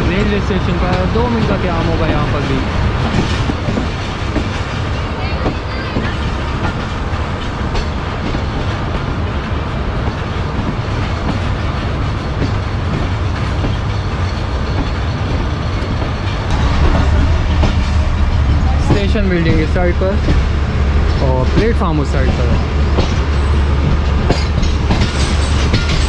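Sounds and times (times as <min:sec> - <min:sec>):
train coach rumbling: 0:00.0 - 0:26.0
wheel clacks over rails: 0:00.0 - 0:26.0.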